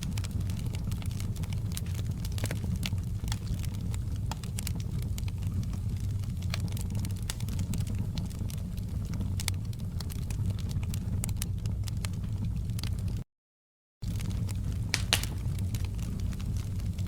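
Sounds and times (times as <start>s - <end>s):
fire crackling and popping: 0.0s - 13.2s, 14.0s - 17.0s.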